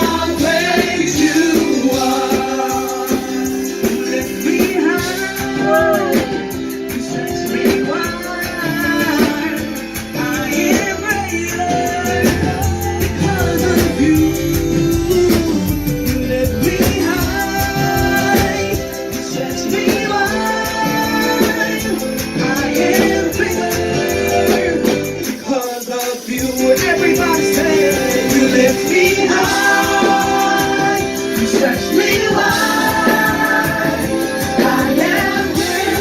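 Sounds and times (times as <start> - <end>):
guitar: 0.0 - 36.0
people singing: 0.0 - 36.0.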